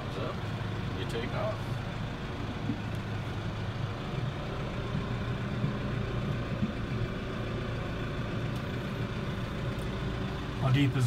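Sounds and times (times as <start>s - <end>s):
tractor diesel engine hum: 0.0s - 11.0s.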